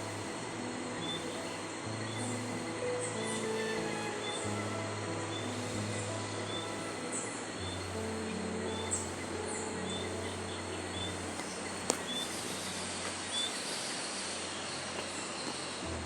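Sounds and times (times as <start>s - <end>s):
small birds chirping: 0.0s - 15.9s
insects hissing: 0.0s - 16.0s.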